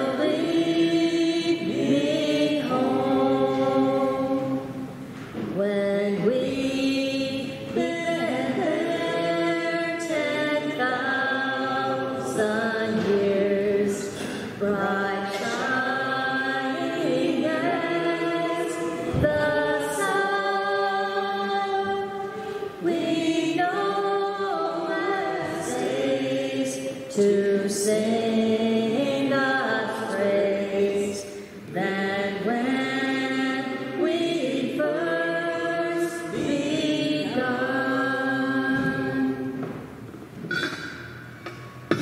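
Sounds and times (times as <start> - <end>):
choir singing a hymn: 0.0 - 40.7.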